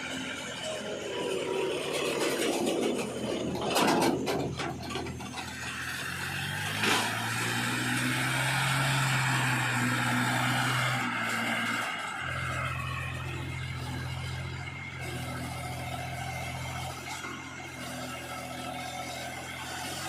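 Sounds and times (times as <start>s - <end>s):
diesel machinery humming: 0.0s - 20.0s.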